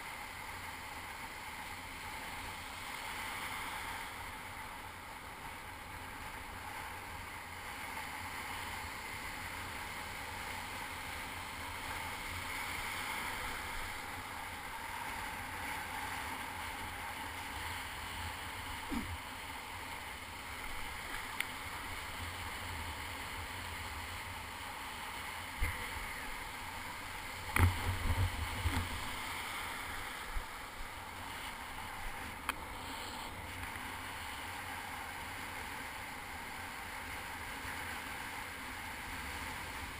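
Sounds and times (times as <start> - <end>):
surf rushing hiss: 0.0 - 39.9.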